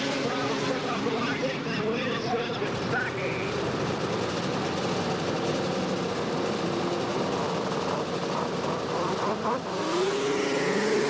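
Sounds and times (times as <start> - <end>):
snowmobile engines revving: 0.0 - 11.0.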